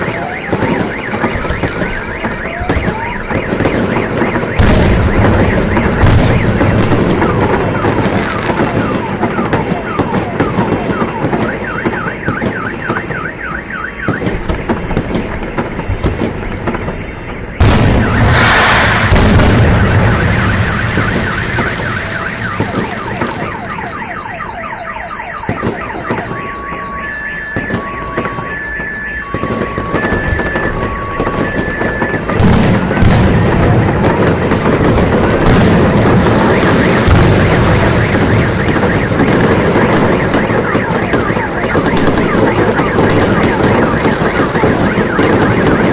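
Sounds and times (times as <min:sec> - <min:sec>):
car alarm warbling and beeping: 0:00.0 - 0:45.9
fireworks banging and crackling: 0:00.0 - 0:45.9.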